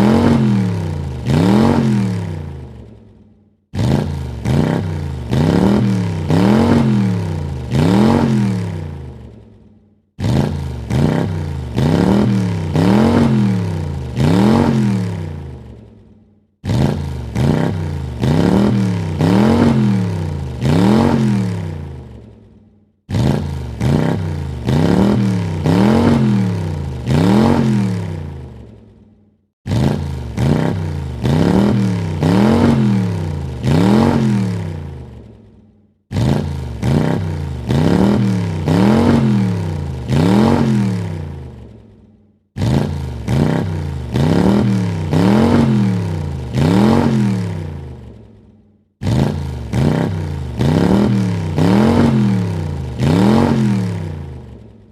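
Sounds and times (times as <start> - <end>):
car engine revving: 0.0 - 3.0, 3.7 - 9.5, 10.2 - 16.0, 16.6 - 22.4, 23.1 - 28.8, 29.6 - 35.3, 36.1 - 41.8, 42.6 - 48.3, 49.0 - 54.7.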